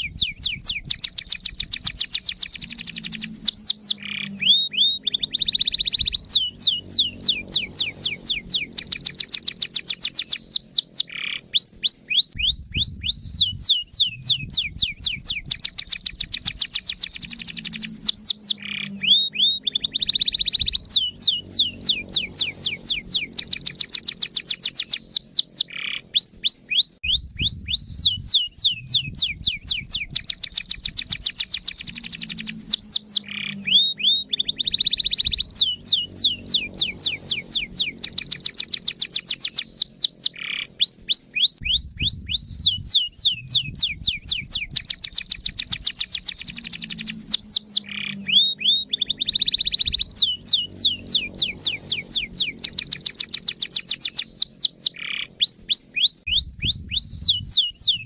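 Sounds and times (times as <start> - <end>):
canary song trills: 0.0 - 58.0.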